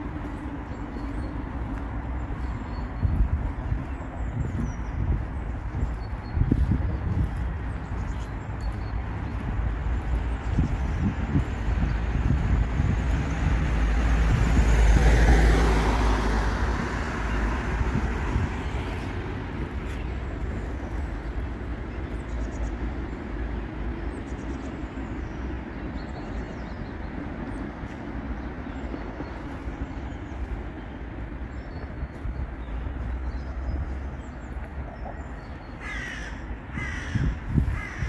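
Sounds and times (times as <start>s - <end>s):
traffic rumble: 0.0s - 38.0s.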